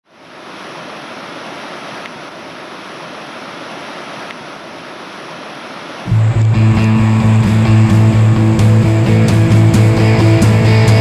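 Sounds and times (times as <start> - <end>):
river rapids rushing: 0.1 - 11.0.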